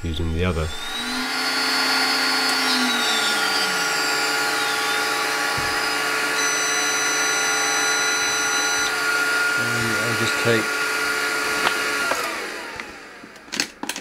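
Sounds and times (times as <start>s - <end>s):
router spindle high-pitched whine: 0.0s - 13.2s.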